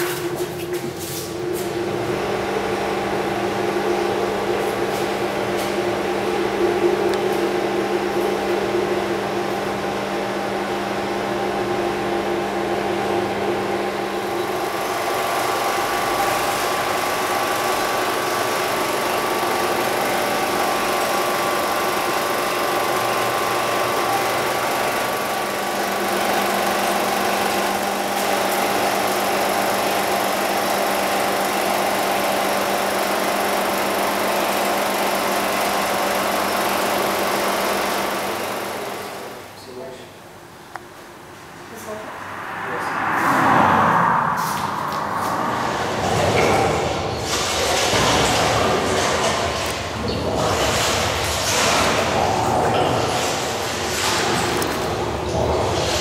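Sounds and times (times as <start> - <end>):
machine-like hum: 0.0 - 56.0.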